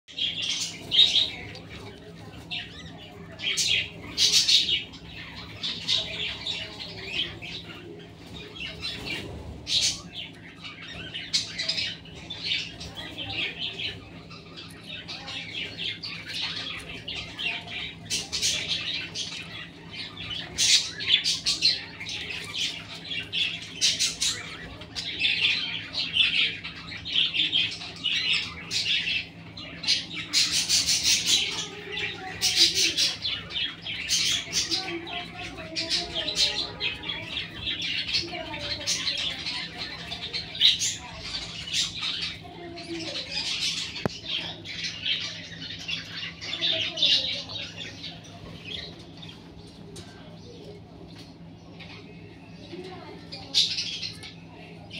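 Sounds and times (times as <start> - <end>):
budgerigars chirping and chattering: 0.1 - 54.9.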